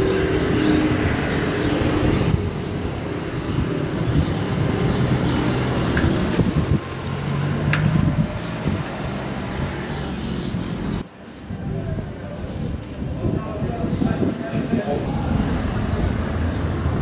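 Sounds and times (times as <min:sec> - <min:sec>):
vehicle engine rumbling: 0:00.0 - 0:17.0
wind noise on microphone: 0:00.0 - 0:17.0.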